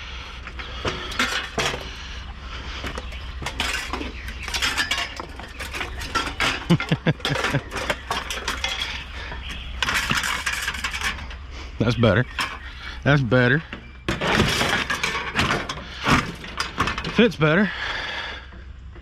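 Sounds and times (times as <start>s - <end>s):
scrap metal clanking: 0.0s - 18.6s.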